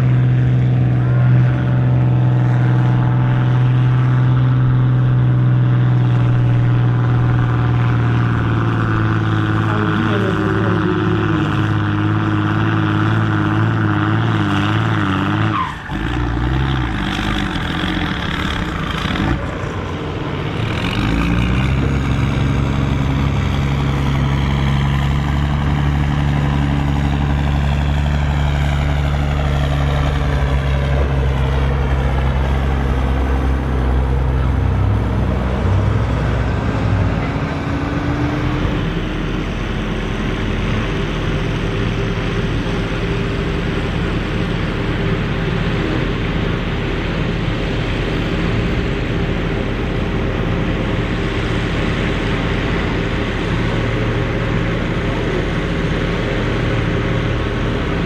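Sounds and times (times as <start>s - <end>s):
tractor diesel engines running: 0.0s - 58.0s.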